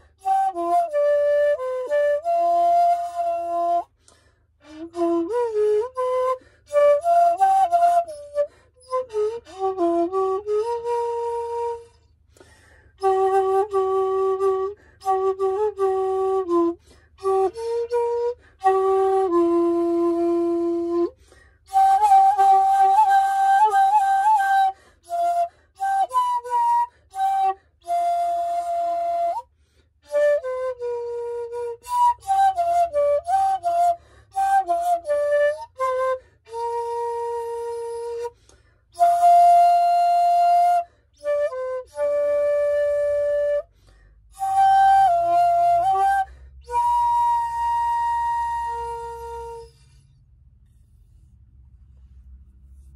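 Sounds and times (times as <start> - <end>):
bamboo flute melody: 0.0 - 52.9.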